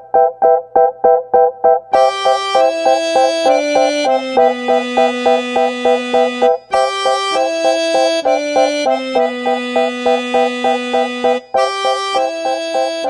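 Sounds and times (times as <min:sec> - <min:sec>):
instrumental background music: 0:00.1 - 0:13.0.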